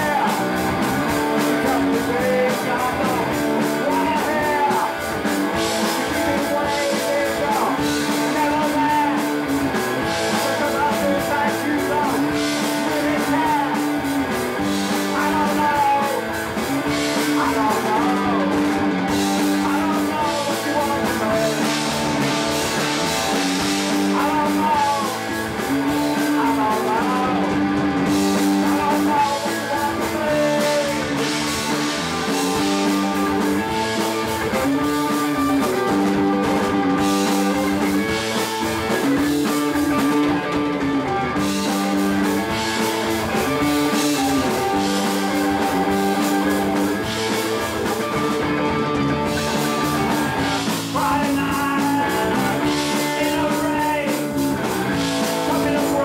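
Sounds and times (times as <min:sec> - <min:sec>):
drums: 0:00.0 - 0:56.0
electric guitar chords: 0:00.0 - 0:56.0
person singing: 0:00.0 - 0:56.0.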